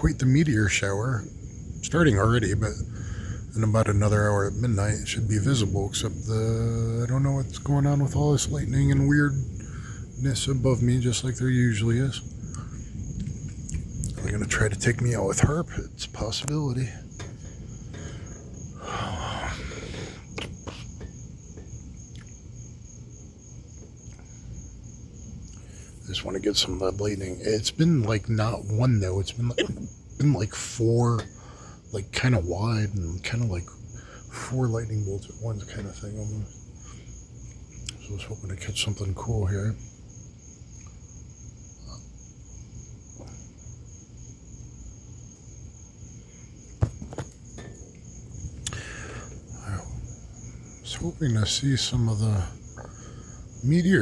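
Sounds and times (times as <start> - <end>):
crickets chirping: 0.0 - 54.0
low background rumble: 0.0 - 54.0.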